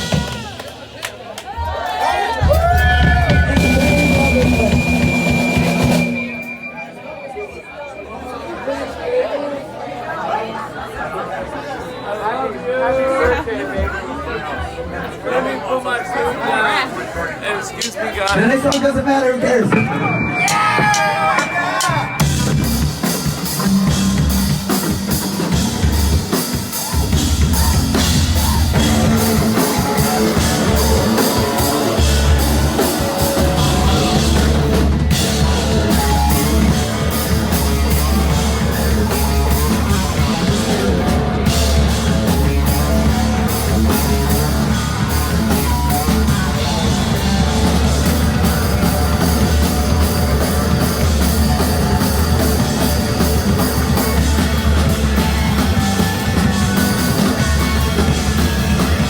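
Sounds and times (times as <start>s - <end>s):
live rock band playing: 0.0s - 1.2s, 2.3s - 7.7s, 17.8s - 59.0s.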